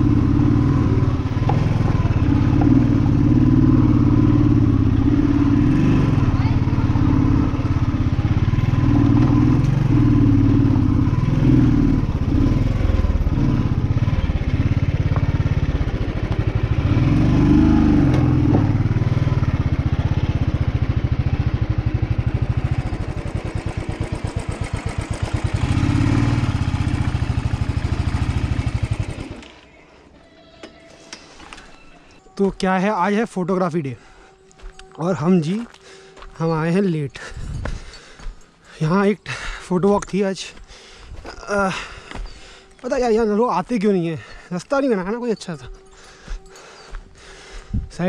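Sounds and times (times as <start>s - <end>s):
motorcycle engine chugging: 0.0s - 29.8s, 36.3s - 48.0s.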